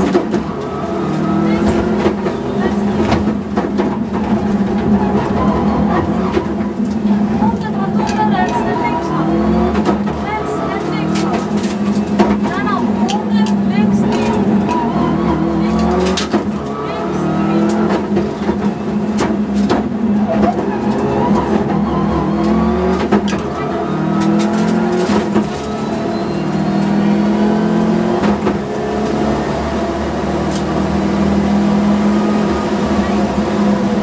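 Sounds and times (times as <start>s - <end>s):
rally car engine running hard: 0.0s - 34.0s.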